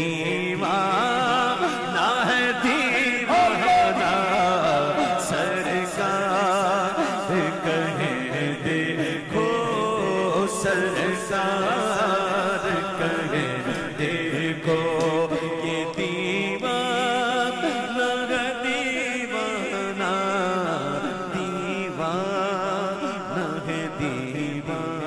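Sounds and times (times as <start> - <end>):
man singing devotional song: 0.0 - 25.0.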